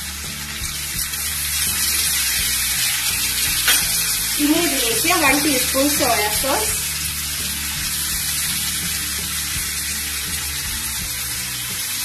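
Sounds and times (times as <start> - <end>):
background music: 0.0 - 12.0
onion and garlic sizzling: 0.0 - 12.0.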